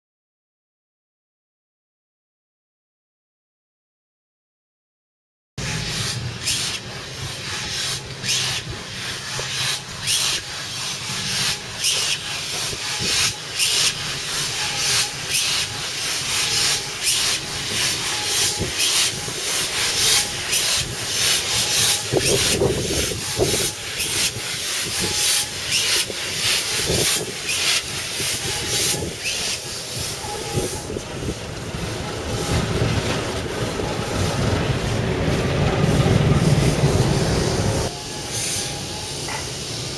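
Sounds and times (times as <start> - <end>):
steam hissing: 5.6 - 39.9
steam locomotive exhaust beats: 5.6 - 39.9.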